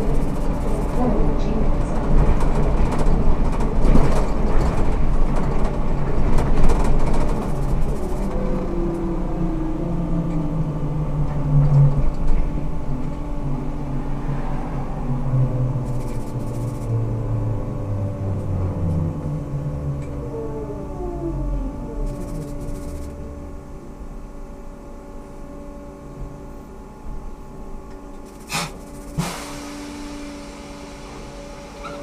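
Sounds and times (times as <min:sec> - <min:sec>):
bus rumble and rattle: 0:00.0 - 0:32.0.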